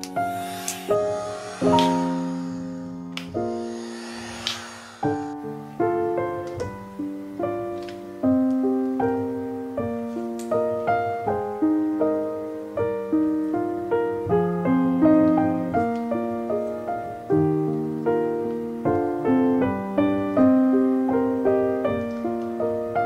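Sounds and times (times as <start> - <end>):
gentle piano piece: 0.0 - 23.0.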